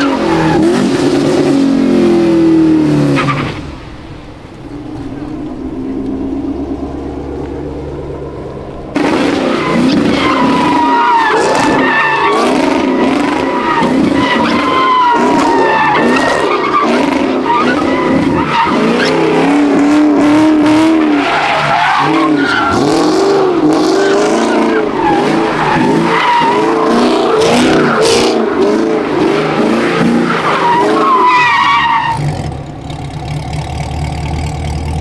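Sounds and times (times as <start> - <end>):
car engine revving: 0.0 - 35.0
car tyres squealing: 0.0 - 35.0.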